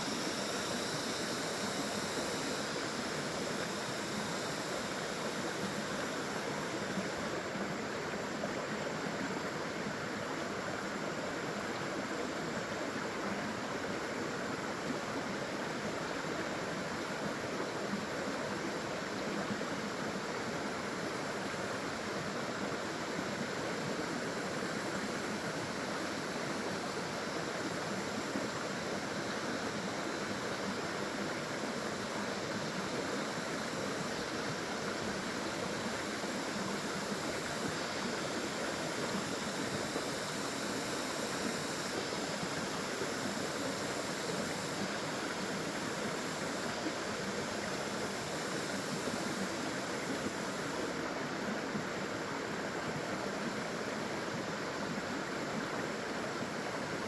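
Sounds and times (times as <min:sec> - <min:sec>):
water splashing and flowing: 0:00.0 - 0:57.0.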